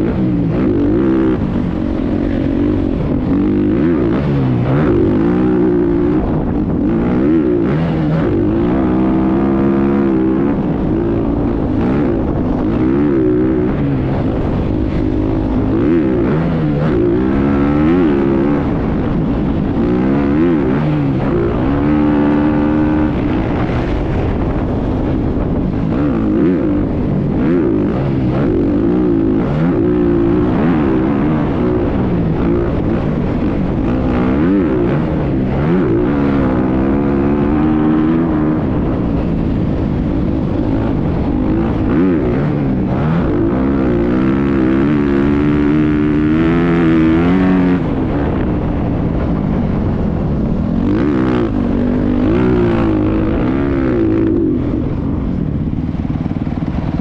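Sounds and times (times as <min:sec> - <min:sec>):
constant low rumble: 0:00.0 - 0:57.0
motocross bike engine revving: 0:00.0 - 0:57.0.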